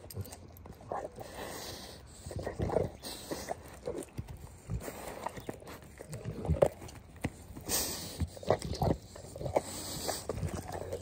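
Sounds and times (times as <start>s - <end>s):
dog breathing: 0.0s - 11.0s
dog chewing a bone: 0.0s - 11.0s.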